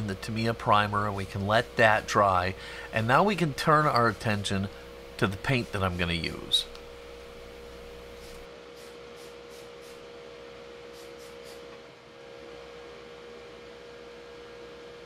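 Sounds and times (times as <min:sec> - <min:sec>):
steady hum with tone: 0:00.0 - 0:15.0.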